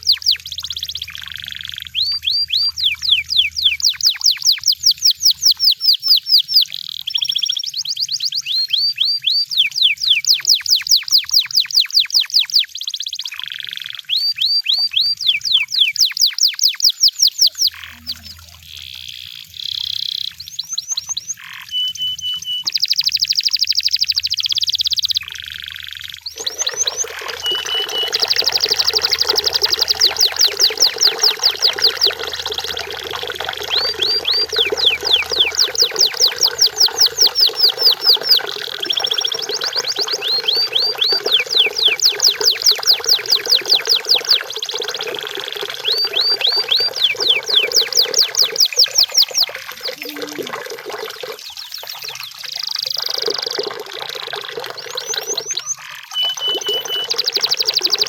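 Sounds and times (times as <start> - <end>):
canary singing: 0.0 - 50.6, 54.7 - 58.0.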